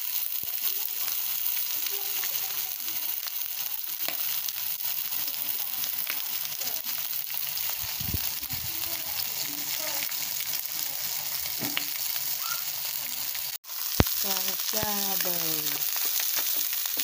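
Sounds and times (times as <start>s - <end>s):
fish sizzling in a pan: 0.0s - 17.0s.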